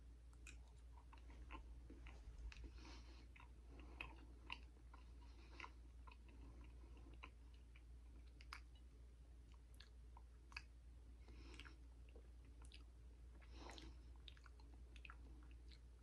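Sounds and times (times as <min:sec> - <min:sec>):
person chewing: 0:00.3 - 0:16.0.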